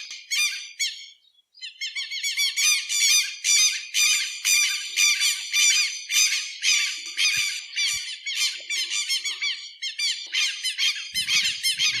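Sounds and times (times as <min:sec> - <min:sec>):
lapwing calling: 0:00.0 - 0:12.0.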